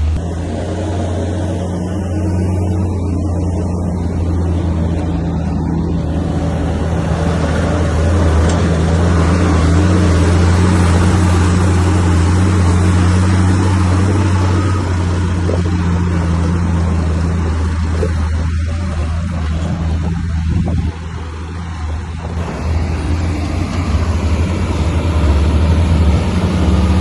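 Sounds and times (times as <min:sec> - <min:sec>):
bulldozer diesel engine under load: 0:00.0 - 0:27.0.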